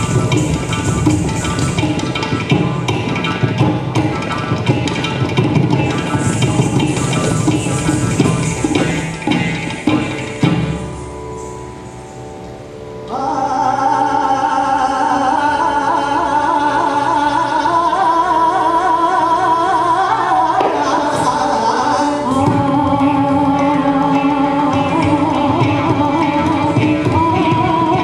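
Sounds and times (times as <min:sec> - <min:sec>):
classical dance music with singing: 0:00.0 - 0:28.0.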